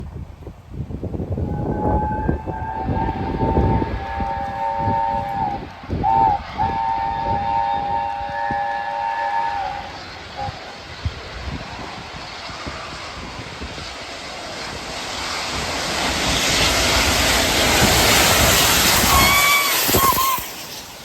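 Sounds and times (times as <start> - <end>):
passing train rumble: 0.0 - 21.0
steam locomotive whistle: 1.3 - 13.8, 15.0 - 21.0.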